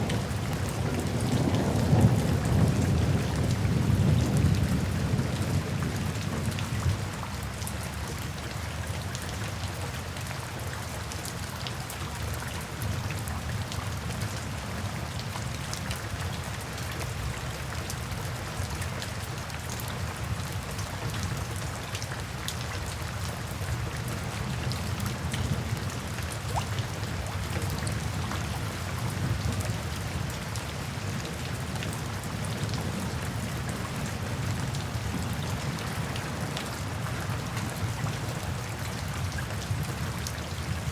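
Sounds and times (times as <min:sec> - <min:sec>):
rain drops ticking: 0:00.0 - 0:40.9.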